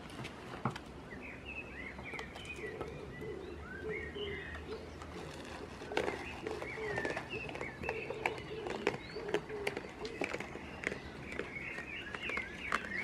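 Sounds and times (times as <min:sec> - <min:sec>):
birds chirping: 0:01.0 - 0:13.0.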